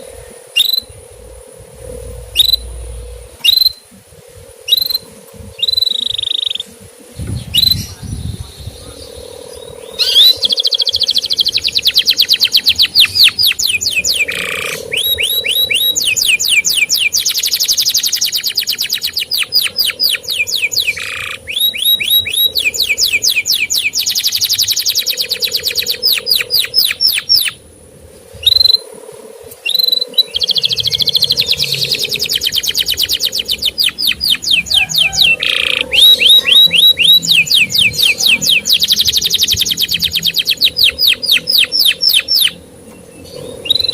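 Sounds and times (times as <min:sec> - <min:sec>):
canary singing fast trills: 0:00.0 - 0:27.7, 0:28.4 - 0:28.9, 0:29.6 - 0:43.9.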